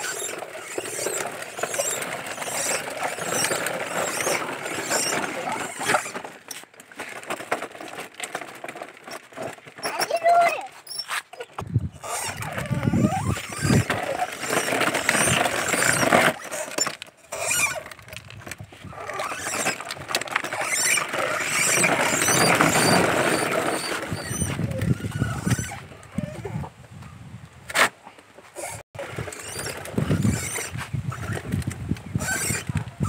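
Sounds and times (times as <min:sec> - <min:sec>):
pedal car squeaking: 0:00.0 - 0:06.6, 0:08.3 - 0:26.6, 0:28.5 - 0:33.0
plastic wheels grinding on grit: 0:00.0 - 0:26.7, 0:27.7 - 0:33.0.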